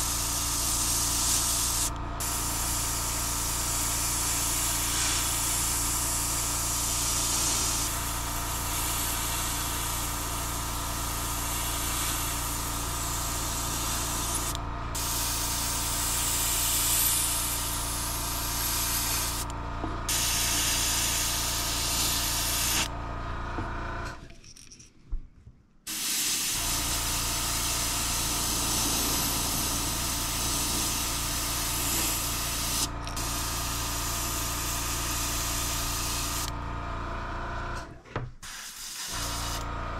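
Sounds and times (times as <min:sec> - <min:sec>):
airbrush hissing: 0:00.0 - 0:19.5, 0:20.1 - 0:22.9, 0:25.9 - 0:36.5, 0:38.4 - 0:39.6
steady low hum: 0:00.0 - 0:36.8.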